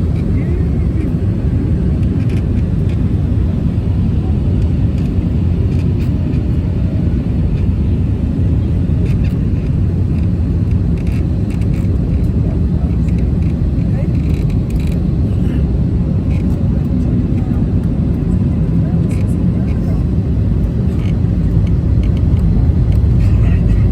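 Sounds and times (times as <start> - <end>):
jet engines rumbling in cabin: 0.0 - 23.9.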